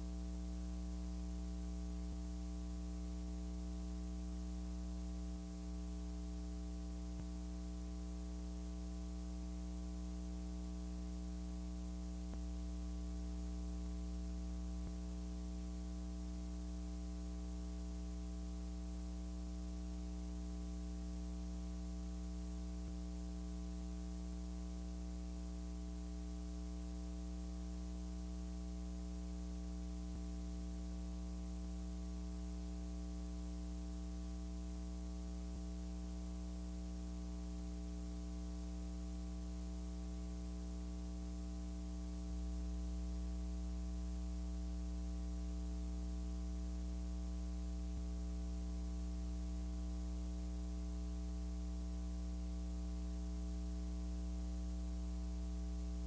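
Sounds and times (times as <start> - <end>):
constant hiss: 0.0 - 48.3
electrical mains hum: 0.0 - 56.0.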